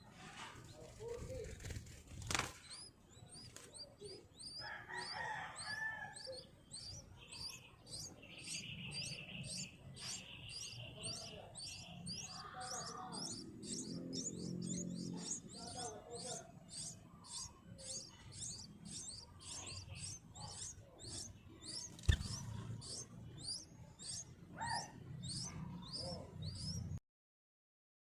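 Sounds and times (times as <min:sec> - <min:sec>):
fuller bird calls: 0:00.0 - 0:27.0.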